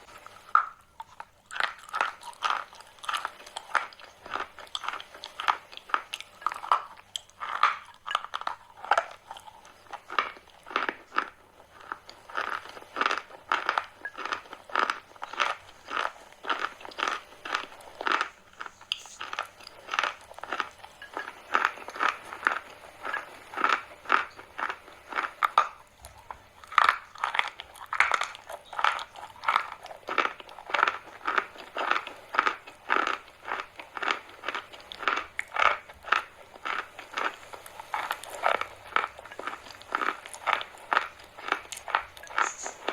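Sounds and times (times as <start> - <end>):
chalk crunching being chewed: 0.0 - 42.9.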